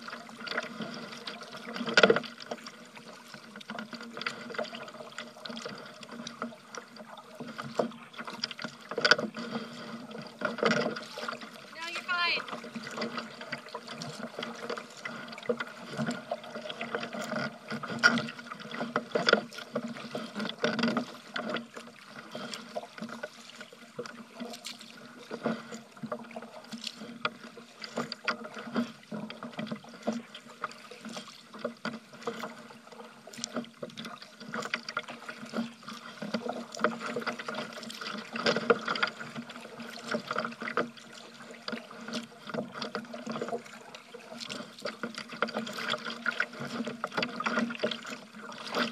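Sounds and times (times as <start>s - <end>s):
paddle strokes in choppy water: 0.0s - 48.9s
water splashing against kayak hull: 0.0s - 48.9s.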